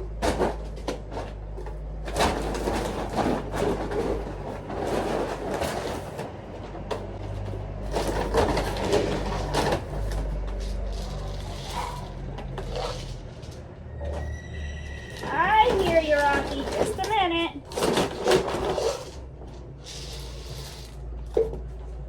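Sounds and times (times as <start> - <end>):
rustling and knocking: 0.0 - 14.2, 15.2 - 22.0
engine idling: 0.0 - 22.0.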